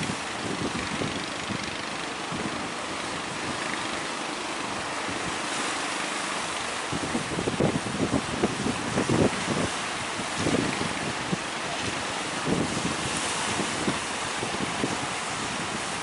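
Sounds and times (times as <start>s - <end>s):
sea surf breaking: 0.0s - 16.0s
wind buffeting microphone: 0.0s - 16.0s.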